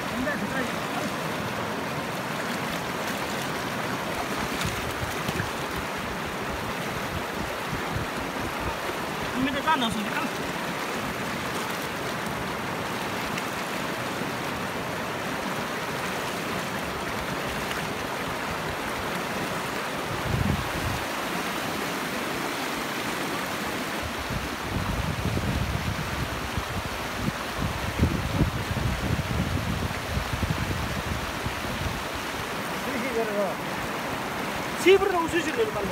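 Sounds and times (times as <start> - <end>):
river rushing over rocks: 0.0 - 35.9.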